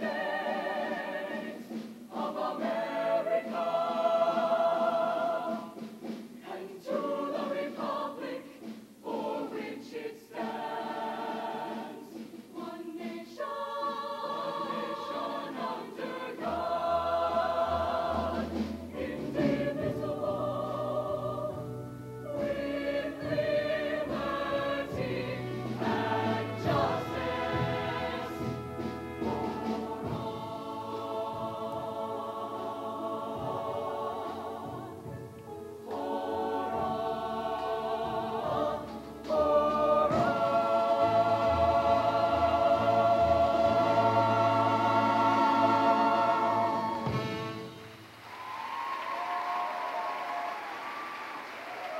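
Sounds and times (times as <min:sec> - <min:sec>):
choir singing in harmony: 0:00.0 - 0:48.0.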